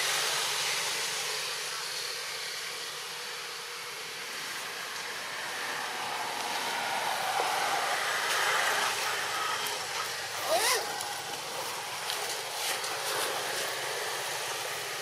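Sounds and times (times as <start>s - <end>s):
outdoor rushing hiss: 0.0s - 15.0s.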